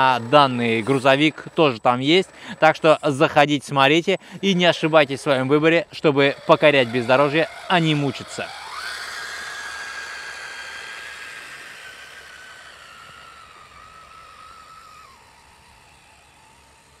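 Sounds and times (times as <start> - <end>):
toy truck motor whine: 0.0 - 17.0.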